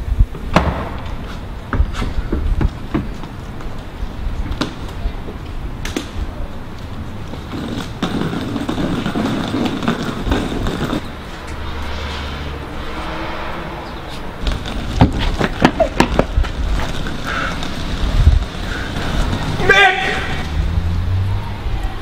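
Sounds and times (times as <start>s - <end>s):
suitcase wheels rolling on concrete: 0.2s - 22.0s.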